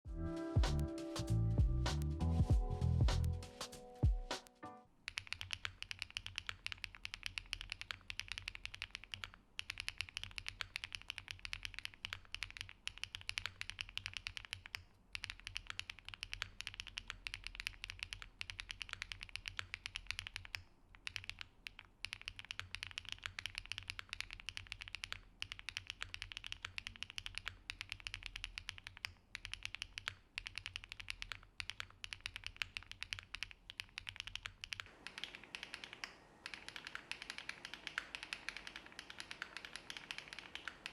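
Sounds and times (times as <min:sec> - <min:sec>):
mechanical keyboard typing: 0:05.1 - 0:40.9.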